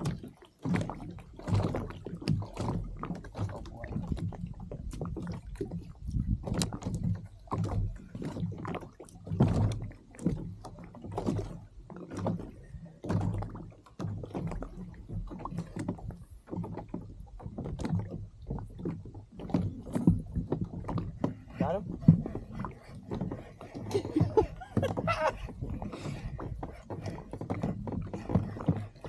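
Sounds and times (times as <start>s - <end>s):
water slapping against hull: 0.0s - 29.0s.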